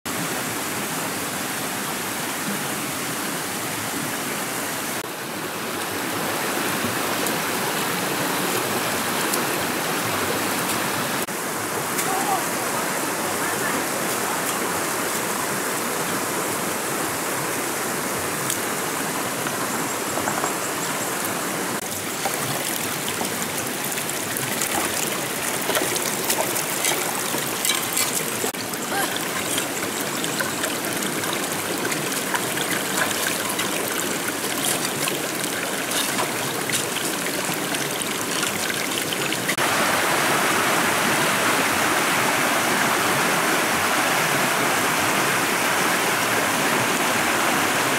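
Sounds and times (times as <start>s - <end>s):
rocky stream flowing: 0.1s - 47.9s.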